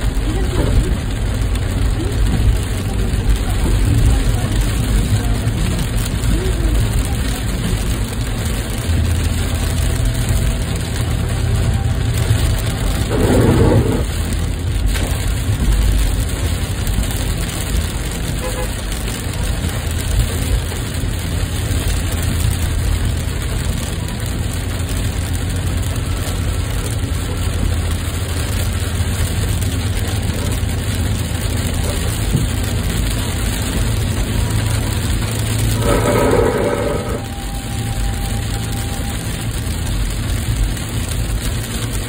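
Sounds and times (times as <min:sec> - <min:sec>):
car driving on wet highway: 0:00.0 - 0:42.0.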